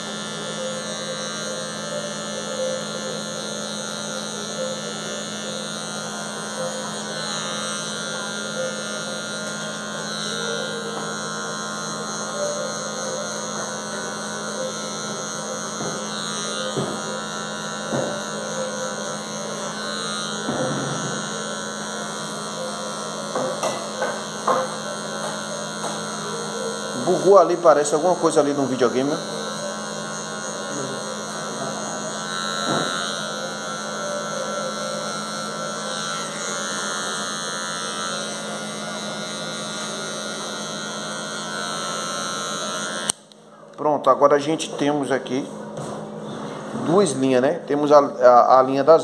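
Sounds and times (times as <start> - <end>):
hair clipper buzzing: 0.0 - 49.0.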